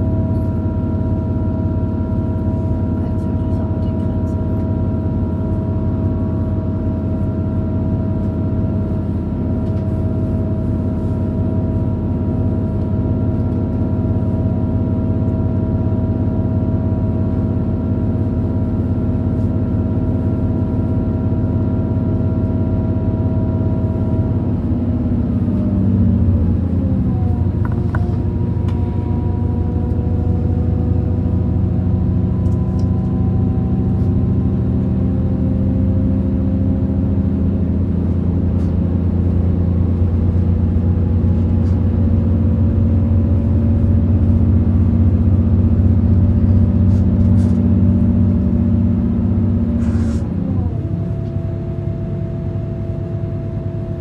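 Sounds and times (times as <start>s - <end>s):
train interior drone and rumble: 0.0s - 54.0s.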